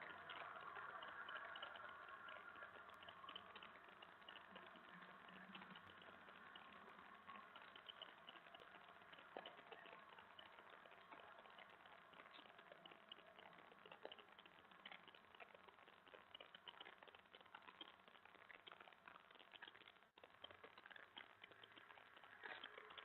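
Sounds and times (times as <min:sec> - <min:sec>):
faint steady hiss: 0:00.0 - 0:23.0
small ticks and crackles: 0:00.0 - 0:23.0.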